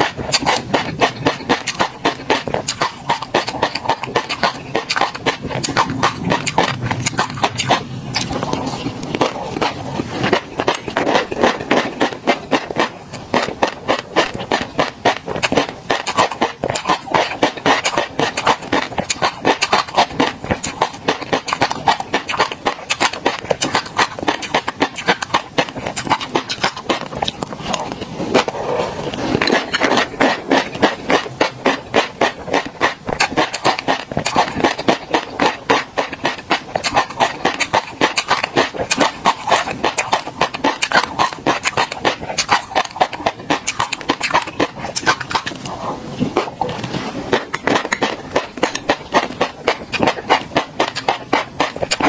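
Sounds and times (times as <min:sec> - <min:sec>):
chewing with wet pops: 0:00.0 - 0:52.0.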